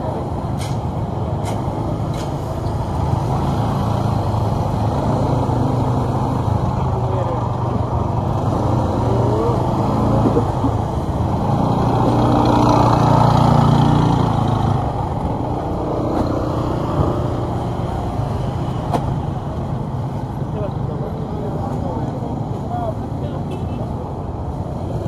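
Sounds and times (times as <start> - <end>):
busy street din: 0.0 - 25.0
scooter engines passing: 0.0 - 25.0.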